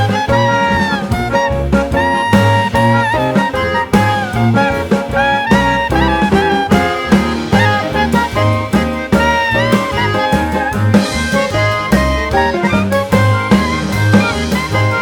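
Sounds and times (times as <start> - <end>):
drum kit steady beat: 0.0 - 15.0
saxophone and brass melody: 0.0 - 15.0
walking bass: 0.0 - 15.0.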